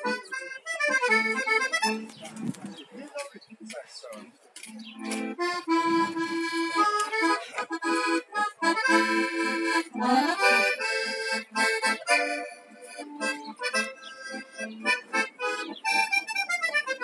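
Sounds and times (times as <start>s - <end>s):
accordion melody with chords: 0.0s - 3.4s, 4.6s - 17.0s.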